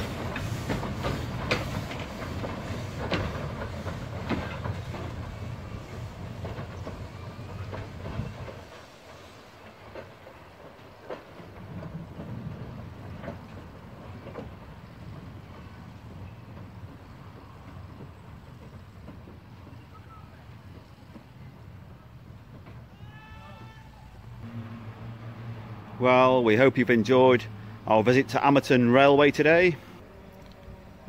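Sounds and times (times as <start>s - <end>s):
train wheels clicking over rail joints: 0.0s - 30.0s
low train rumble: 0.0s - 31.0s.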